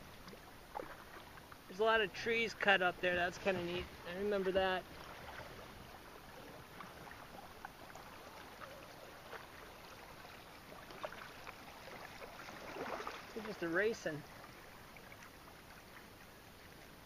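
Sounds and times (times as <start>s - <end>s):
small splashes and drips: 0.0s - 1.8s, 2.6s - 17.0s
quiet paddle strokes: 0.0s - 17.0s.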